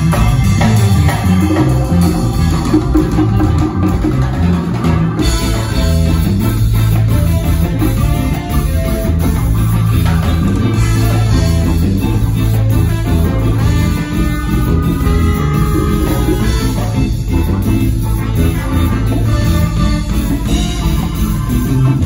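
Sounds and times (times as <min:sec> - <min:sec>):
bass line: 0:00.0 - 0:22.0
guitar: 0:00.0 - 0:22.0
live ska jazz band: 0:00.0 - 0:22.0.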